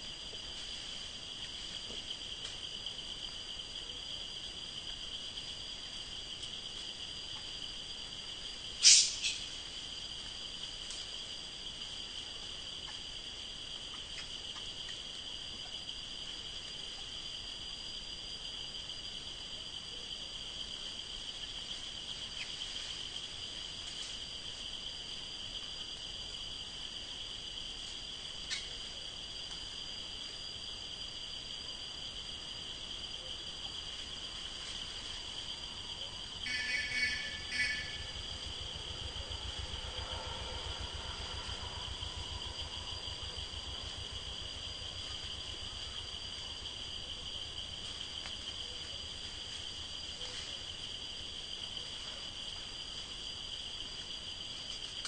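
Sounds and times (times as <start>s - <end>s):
insect chorus droning: 0.0s - 55.0s.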